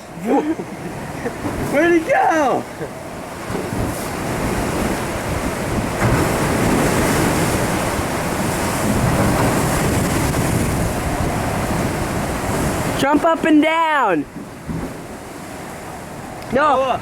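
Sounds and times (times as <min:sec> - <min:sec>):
surf crashing on shore: 0:00.0 - 0:17.0
wind buffeting microphone: 0:00.8 - 0:13.5, 0:14.2 - 0:17.0.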